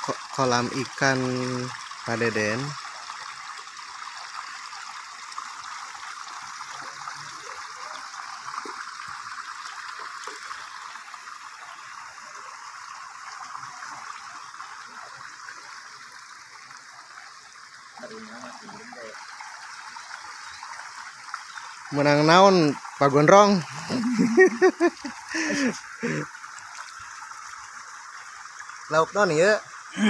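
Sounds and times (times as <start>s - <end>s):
water splashing into pond: 0.0s - 30.0s.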